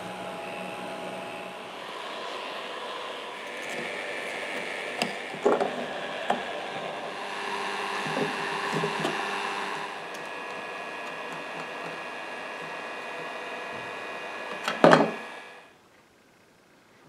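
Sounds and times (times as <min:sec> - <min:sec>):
heat gun blowing: 0:00.0 - 0:15.7.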